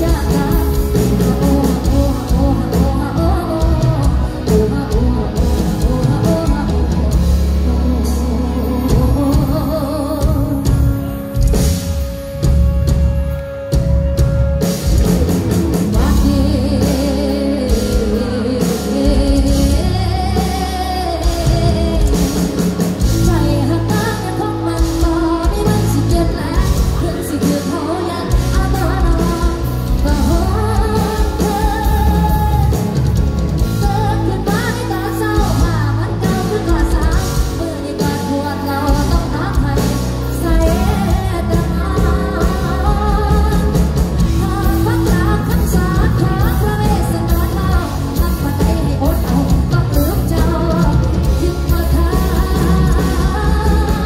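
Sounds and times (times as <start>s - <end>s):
lead singer: 0.0s - 54.0s
live pop-rock band: 0.0s - 54.0s.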